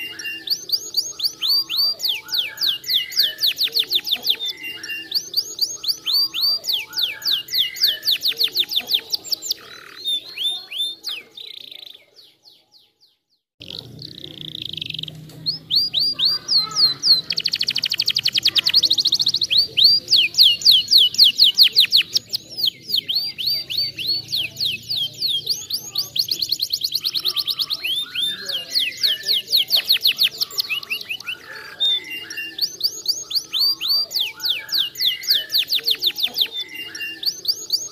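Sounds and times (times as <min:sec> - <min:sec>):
canary singing: 0:00.0 - 0:37.9.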